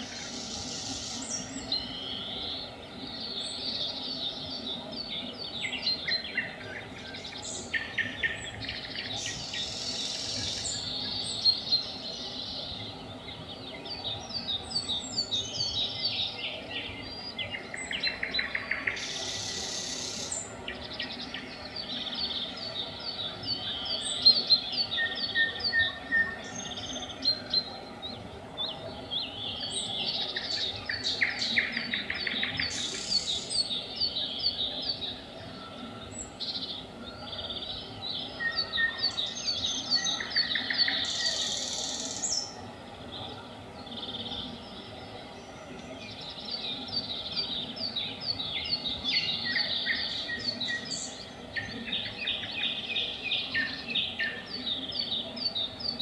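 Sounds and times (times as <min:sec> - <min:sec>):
nightingales singing: 0:00.0 - 0:56.0
small birds chirping: 0:00.0 - 0:56.0.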